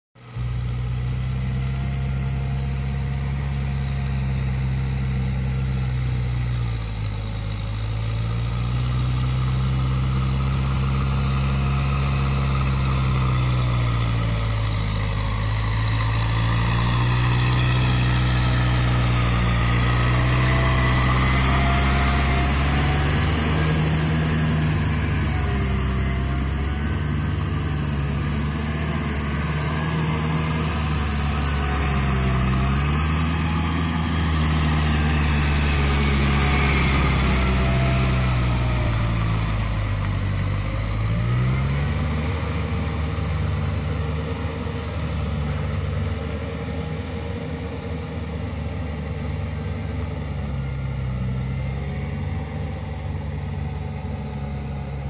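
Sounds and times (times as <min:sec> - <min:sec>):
tractor diesel engine under load: 0:00.2 - 0:55.0.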